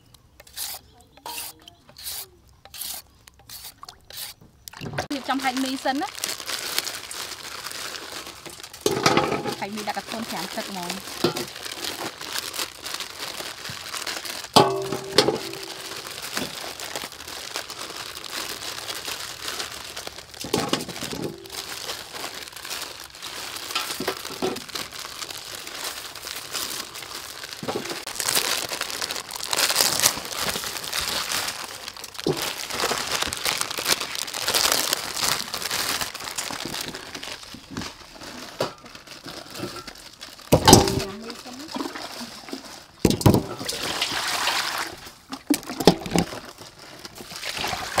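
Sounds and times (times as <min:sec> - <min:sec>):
plastic packets crinkling: 0:00.0 - 0:48.0.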